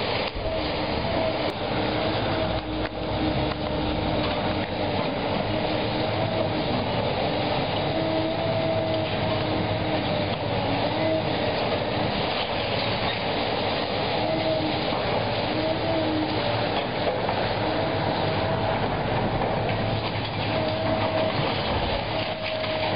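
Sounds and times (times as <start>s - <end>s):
excavator diesel engine rumbling: 0.0s - 22.9s
hydraulic whine: 0.0s - 22.9s.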